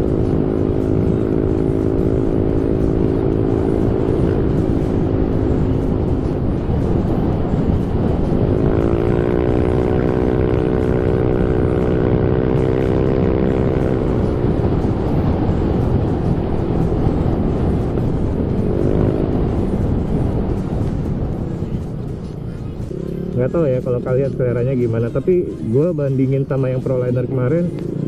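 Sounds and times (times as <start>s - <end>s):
scooter engine at speed: 0.0s - 23.5s, 27.7s - 28.0s
wind and road noise: 0.0s - 28.0s.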